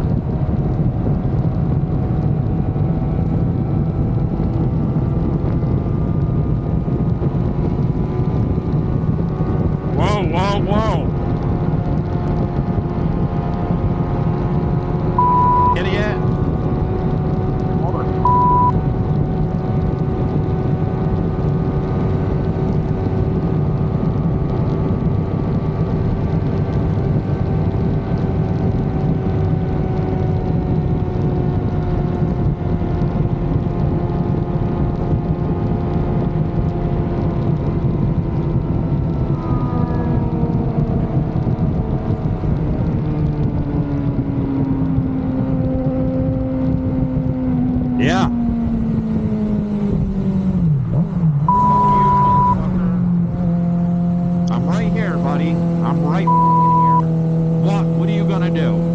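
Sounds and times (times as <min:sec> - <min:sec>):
motorcycle engine cruising: 0:00.0 - 0:58.9
wind rushing over microphone: 0:00.0 - 0:58.9.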